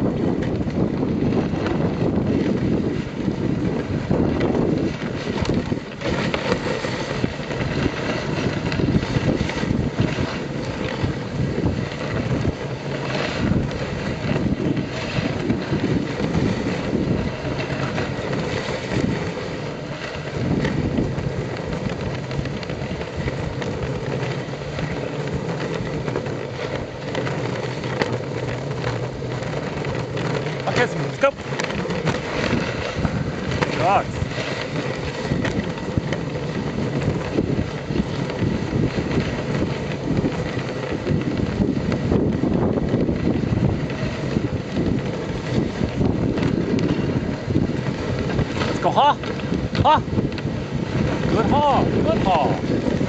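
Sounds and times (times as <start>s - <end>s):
sled runners sliding over snow: 0.0s - 53.0s
wind on microphone: 0.0s - 53.0s
small knocks and scrapes: 0.1s - 53.0s.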